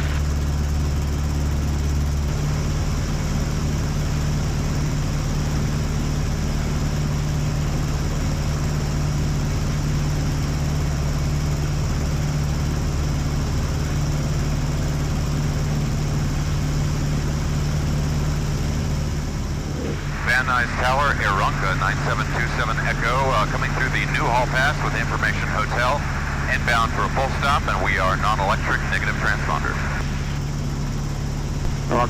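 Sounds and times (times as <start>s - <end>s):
propeller aircraft engine droning: 0.0s - 32.0s.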